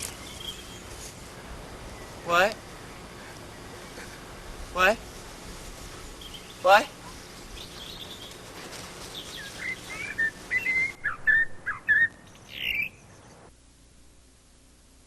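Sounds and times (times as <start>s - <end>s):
bird chirping: 0.0s - 4.5s, 5.9s - 13.5s.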